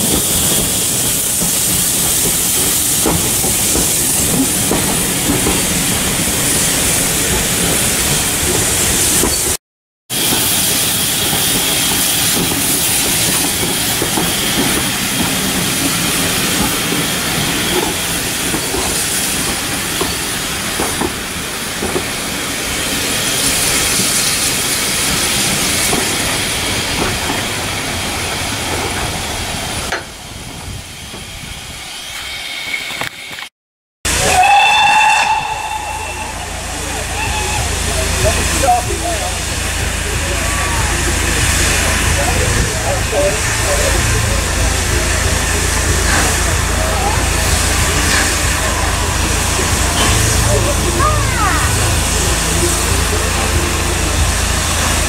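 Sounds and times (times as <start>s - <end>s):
steam hiss: 0.0s - 33.5s, 34.1s - 55.0s
train wheels rumbling on rails: 0.0s - 33.5s, 34.1s - 55.0s.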